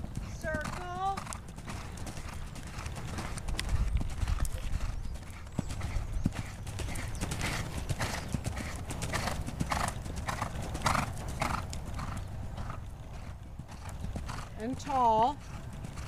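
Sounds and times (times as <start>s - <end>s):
horse breathing: 0.0s - 16.0s
muffled hoofbeats on sand: 0.0s - 16.0s.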